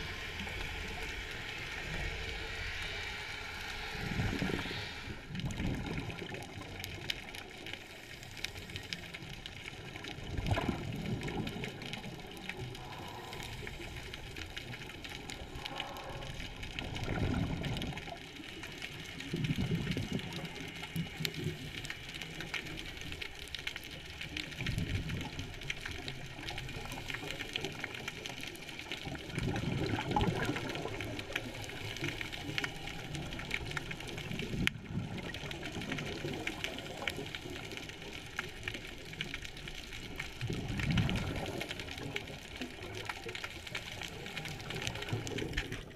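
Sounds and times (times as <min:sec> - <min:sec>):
scuba exhaled bubbles gushing: 0:00.0 - 0:45.9.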